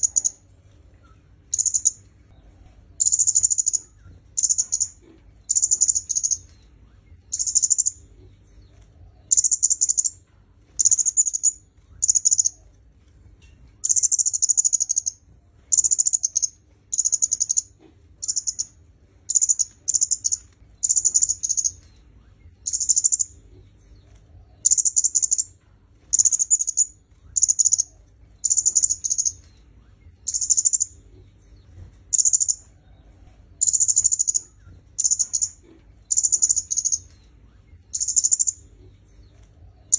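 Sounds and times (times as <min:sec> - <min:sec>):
bird chittering song: 0:00.0 - 0:12.6, 0:13.8 - 0:33.0, 0:33.6 - 0:39.9.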